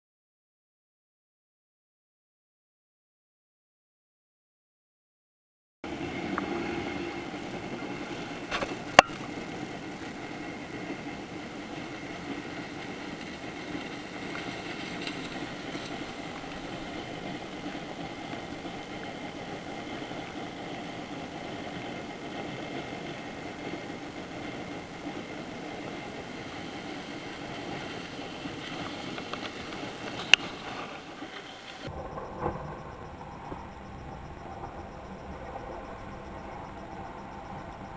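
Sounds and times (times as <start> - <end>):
constant hiss: 5.9 - 37.9
watercraft engine running: 5.9 - 37.9.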